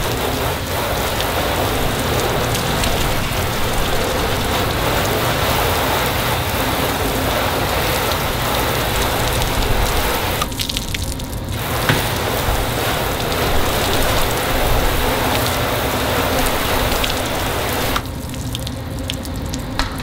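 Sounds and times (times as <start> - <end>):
hose water spraying on metal: 0.0 - 20.0.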